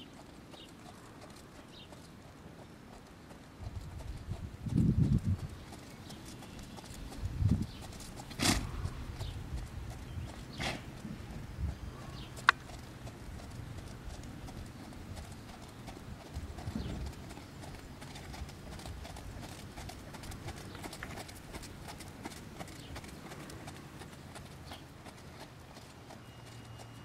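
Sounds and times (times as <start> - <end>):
horse hooves trotting on gravel: 0.0 - 27.0.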